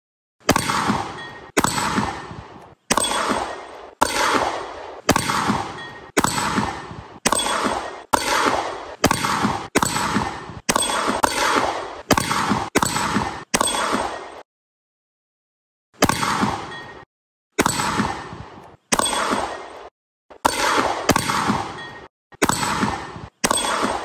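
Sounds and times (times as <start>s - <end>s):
pistol shots with metallic ringing: 0.4s - 14.4s, 16.0s - 24.0s.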